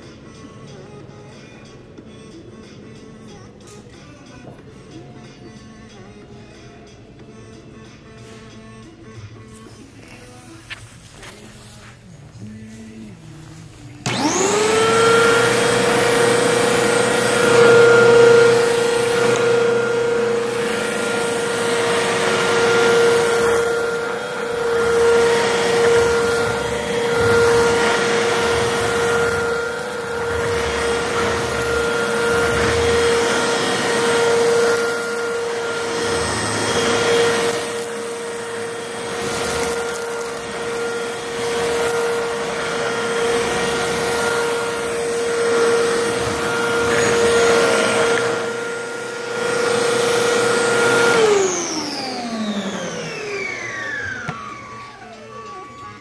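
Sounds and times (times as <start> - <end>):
vacuum suction hiss on carpet: 10.0 - 55.4
vacuum cleaner motor whine: 11.2 - 56.0.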